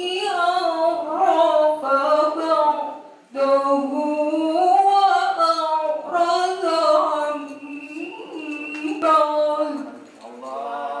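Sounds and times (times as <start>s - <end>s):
woman chanting into a microphone: 0.0s - 11.0s.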